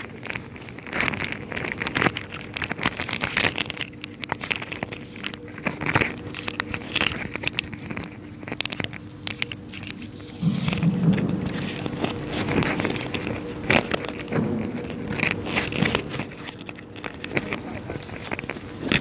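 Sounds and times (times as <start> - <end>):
objects crackling and clicking: 0.0 - 19.0
steady low hum: 0.0 - 19.0.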